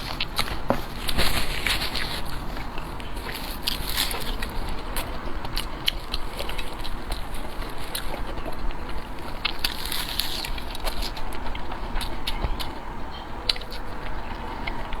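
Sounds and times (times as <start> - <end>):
chewing with clicks and crackles: 0.0 - 15.0.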